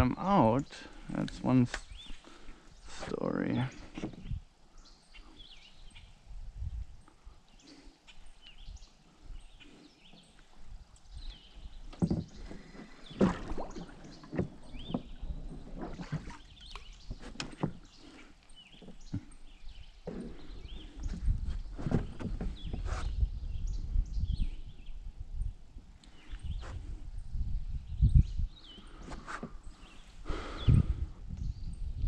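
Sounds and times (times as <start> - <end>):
birds chirping: 0.0 - 6.3, 7.0 - 25.1, 26.0 - 32.0.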